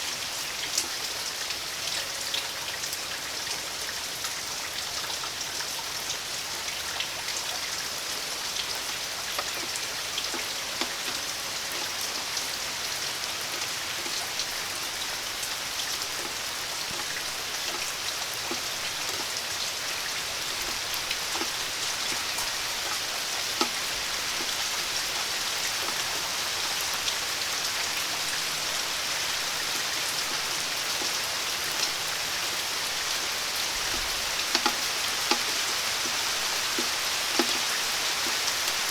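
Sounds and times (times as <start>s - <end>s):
raindrops ticking on surfaces: 0.0s - 38.9s
steady rain falling: 0.0s - 38.9s.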